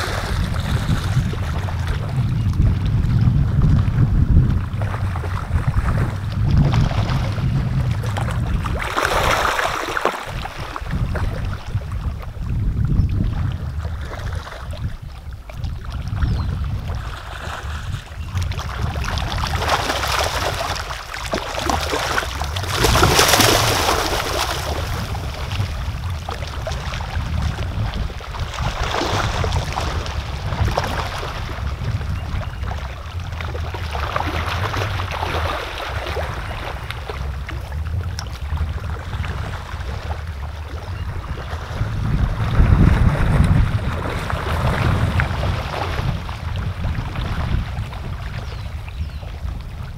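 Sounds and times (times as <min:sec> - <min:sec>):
fish splashing in water: 0:00.0 - 0:03.1, 0:04.6 - 0:12.4, 0:13.3 - 0:49.4
wind buffeting microphone: 0:00.0 - 0:49.9.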